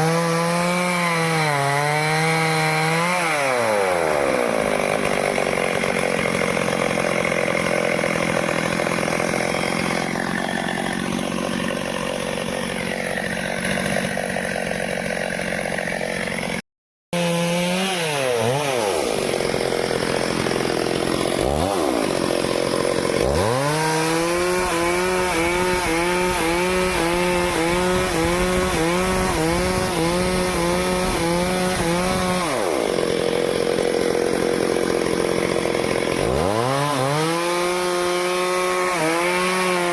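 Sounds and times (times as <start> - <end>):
chainsaw cutting wood: 0.0 - 16.6, 17.2 - 39.9.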